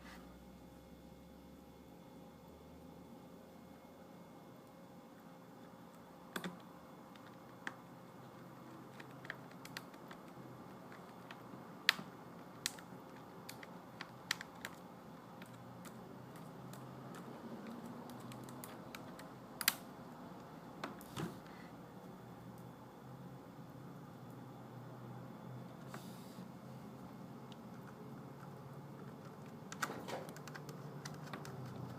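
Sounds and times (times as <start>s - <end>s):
faint room hum: 0.0s - 31.9s.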